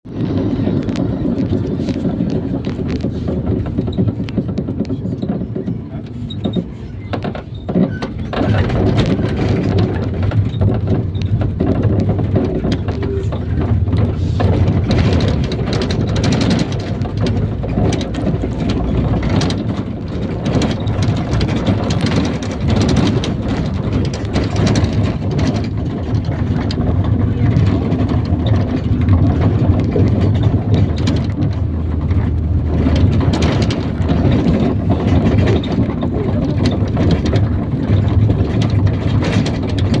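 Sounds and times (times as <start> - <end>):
road noise: 0.0 - 40.0
body knocks and rattles: 0.1 - 40.0
diesel bus engine running: 0.1 - 40.0.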